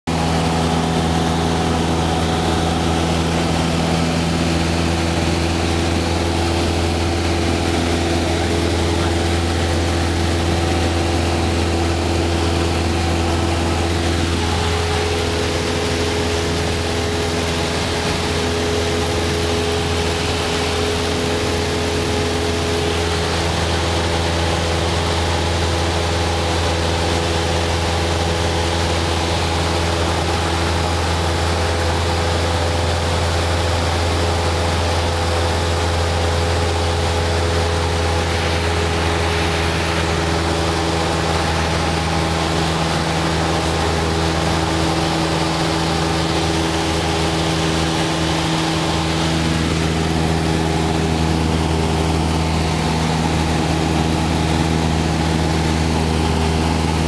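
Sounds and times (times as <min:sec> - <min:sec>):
propeller plane engine droning: 0:00.1 - 0:57.0.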